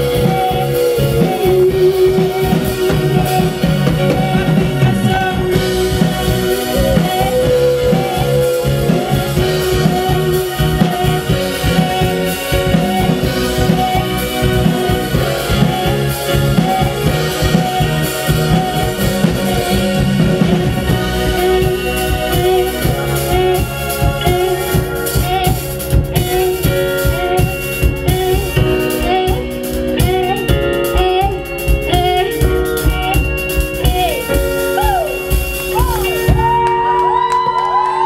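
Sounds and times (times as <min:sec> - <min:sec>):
rock band playing live: 0:00.0 - 0:38.0.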